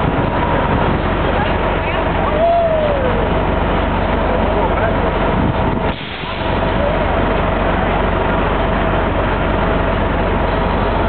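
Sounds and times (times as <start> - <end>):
busy street traffic: 0.0 - 11.0.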